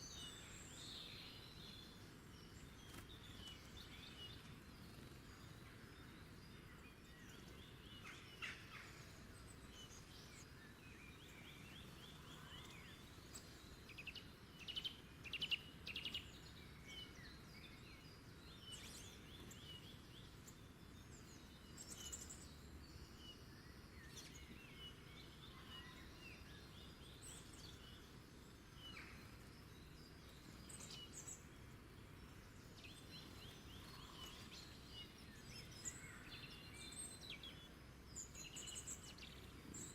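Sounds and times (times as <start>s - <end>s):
faint low background hiss: 0.0s - 39.9s
wild birds chirping and trilling: 0.0s - 39.9s.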